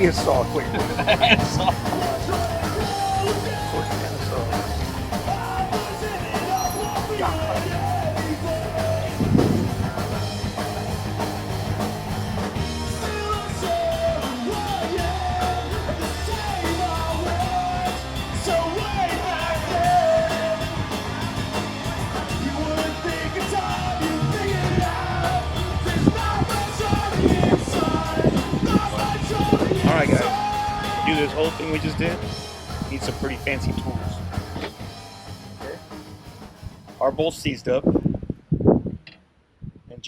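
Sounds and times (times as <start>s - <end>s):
rock music with singing: 0.0s - 37.4s.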